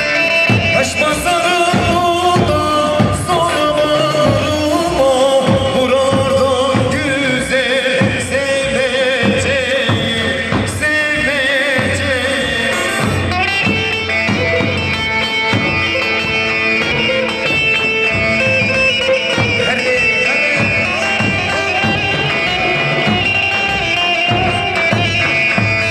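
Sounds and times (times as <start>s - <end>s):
person singing: 0.0s - 25.9s
steady drum beat: 0.0s - 25.9s
wavering folk melody: 0.0s - 25.9s.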